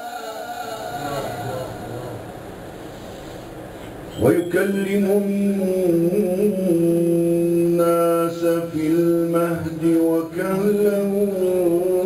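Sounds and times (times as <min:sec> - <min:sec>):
man reciting melodically: 0:00.0 - 0:02.4, 0:04.1 - 0:12.0.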